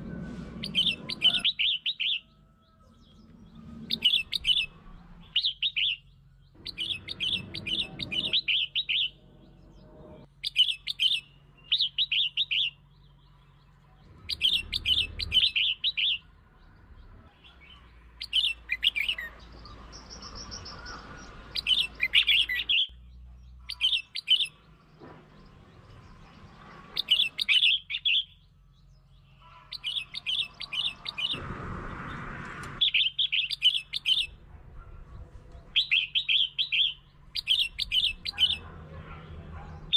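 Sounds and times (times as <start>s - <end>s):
bird chattering song: 0.6s - 31.4s, 32.8s - 39.9s.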